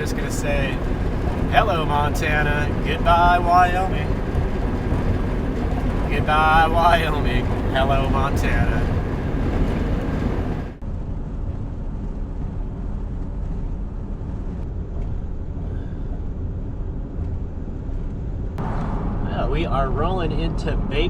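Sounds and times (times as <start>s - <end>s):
road and engine noise: 0.0s - 21.0s.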